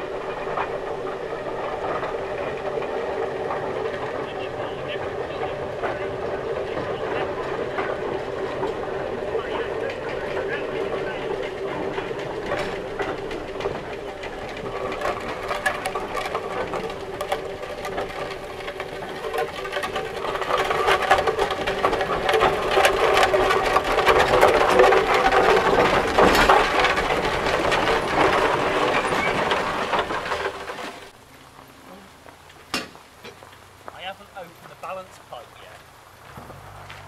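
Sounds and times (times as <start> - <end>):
steam traction engine clatter: 0.0 - 37.0.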